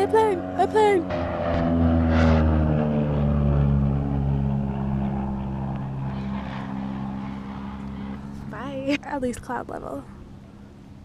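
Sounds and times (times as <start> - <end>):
airplane engine drone overhead: 0.0 - 11.0.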